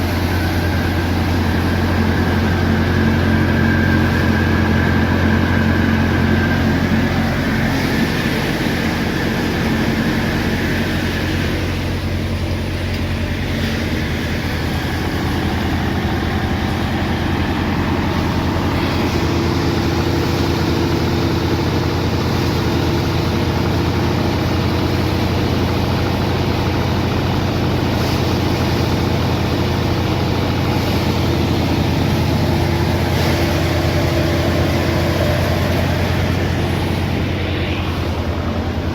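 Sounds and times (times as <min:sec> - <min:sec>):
farm machine engine running: 0:00.0 - 0:38.9.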